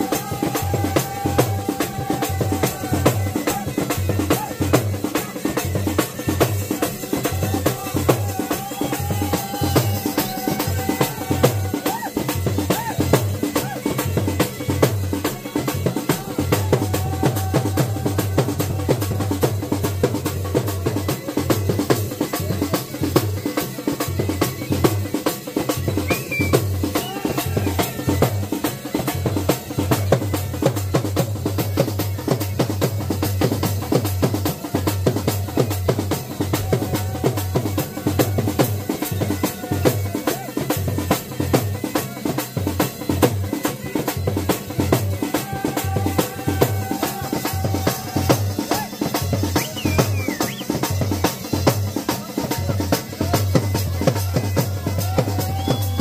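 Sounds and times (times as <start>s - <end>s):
drums beating fast rhythm: 0.0s - 56.0s.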